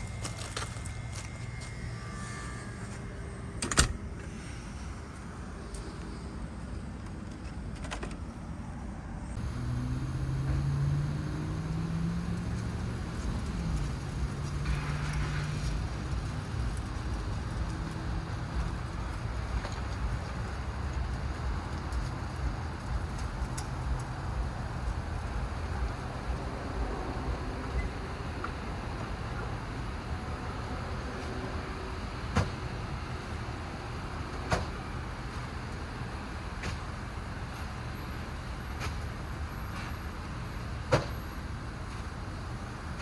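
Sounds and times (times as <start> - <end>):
vehicle engine hum: 0.0 - 43.0.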